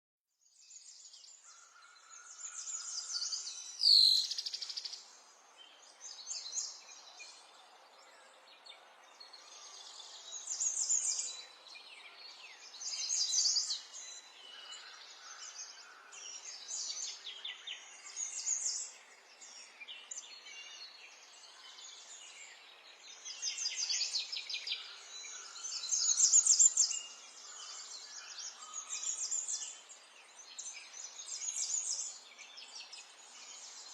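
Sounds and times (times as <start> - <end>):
songbirds chirping: 0.4 - 33.9.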